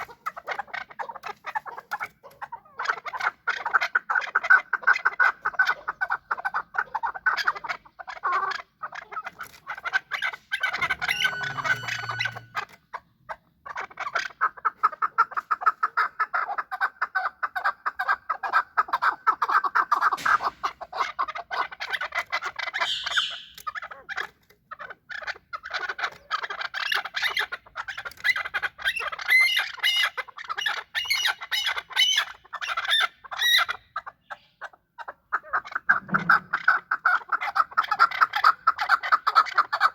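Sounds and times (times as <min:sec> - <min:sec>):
partridge clucking calls: 0:00.0 - 0:39.9.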